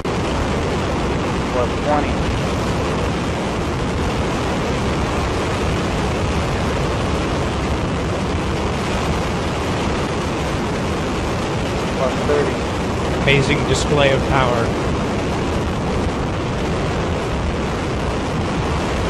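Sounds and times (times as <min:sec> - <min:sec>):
rocket motor exhaust roar: 0:00.0 - 0:19.0.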